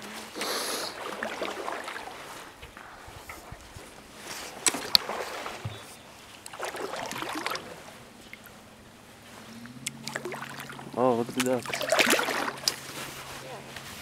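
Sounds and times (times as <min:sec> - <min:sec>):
paddle swishing through water: 0:00.0 - 0:14.0.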